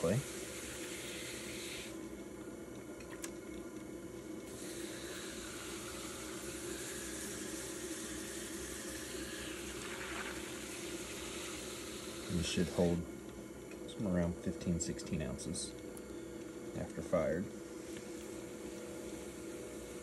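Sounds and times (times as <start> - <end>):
pottery wheel humming: 0.0 - 20.0.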